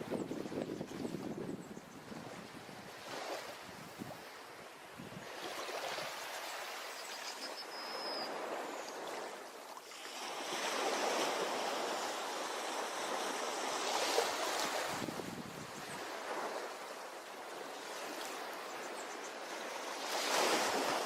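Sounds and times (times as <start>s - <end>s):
ocean waves on beach: 0.0s - 21.0s.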